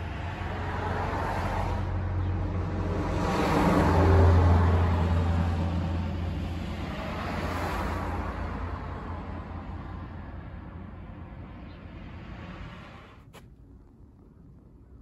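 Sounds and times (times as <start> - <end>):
car driving past: 0.0 - 13.3.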